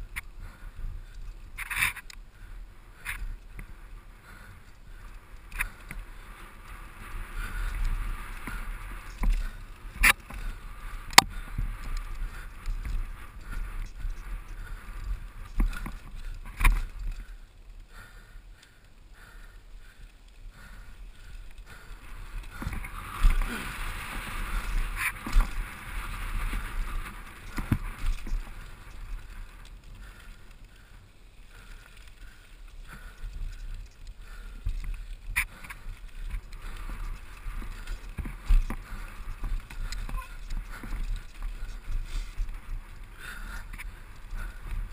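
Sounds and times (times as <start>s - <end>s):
bike knocking and rattling: 0.0s - 44.9s.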